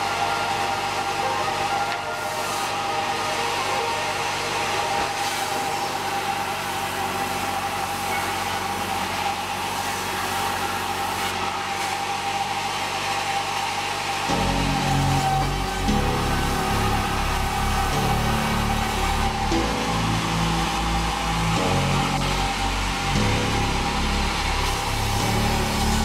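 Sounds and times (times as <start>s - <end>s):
sawmill machinery whining: 0.0s - 26.0s.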